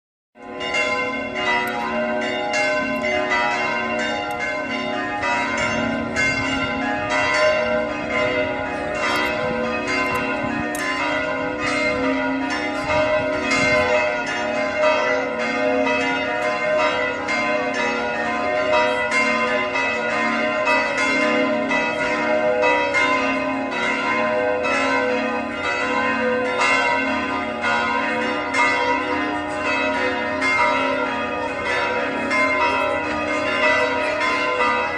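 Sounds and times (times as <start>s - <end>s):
church bells ringing: 0.4s - 34.9s.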